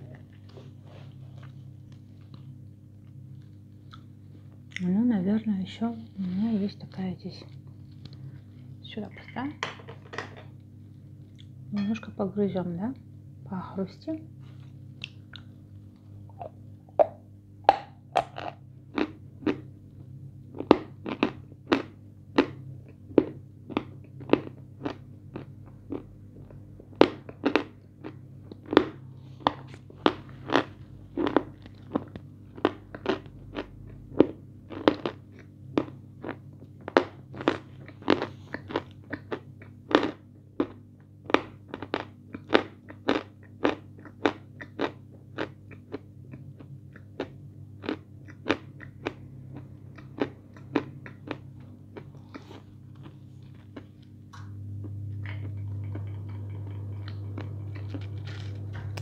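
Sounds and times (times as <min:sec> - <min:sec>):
crunching and chewing food: 0:00.0 - 0:05.0, 0:06.0 - 0:08.8, 0:10.6 - 0:11.7, 0:14.4 - 0:17.1, 0:17.7 - 0:59.0
low steady hum: 0:00.0 - 0:59.0.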